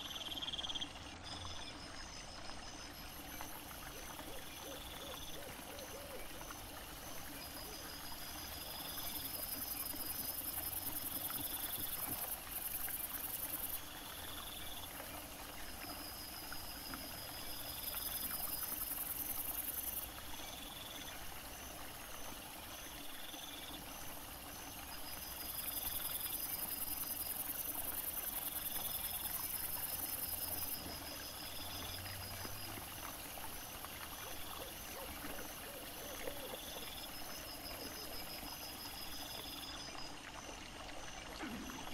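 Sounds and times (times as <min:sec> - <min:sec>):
small stream trickling: 0:00.0 - 0:41.9.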